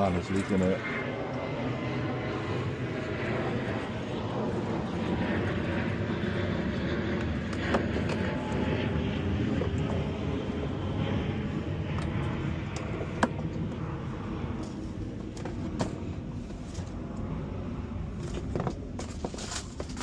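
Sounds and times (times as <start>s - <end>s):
machine droning: 0.0s - 20.0s.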